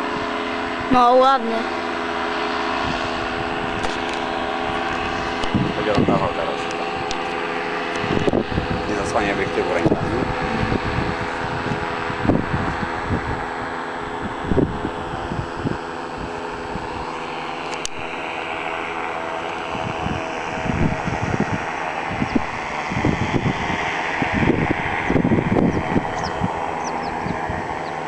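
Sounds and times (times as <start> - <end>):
paramotor engine drone: 0.0 - 28.0
wind rumbling on microphone: 0.0 - 28.0.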